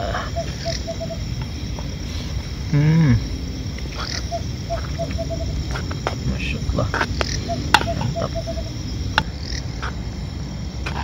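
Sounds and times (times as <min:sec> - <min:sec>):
frog calling: 0:00.0 - 0:11.0
high insect trill: 0:00.0 - 0:11.0.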